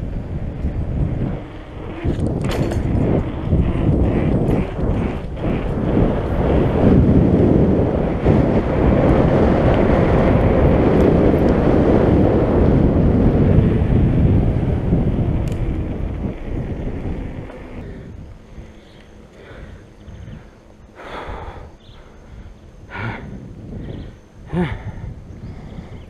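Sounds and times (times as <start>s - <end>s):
bike rumbling over dirt: 0.0s - 21.6s
bike rattles: 0.0s - 26.0s
wind buffeting microphone: 0.0s - 26.0s.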